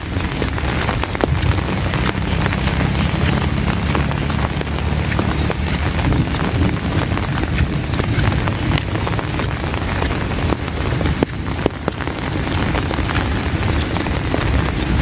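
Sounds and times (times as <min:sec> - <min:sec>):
heavy rain hissing: 0:00.0 - 0:15.0
raindrops ticking close by: 0:00.0 - 0:15.0
low rumble: 0:00.1 - 0:15.0.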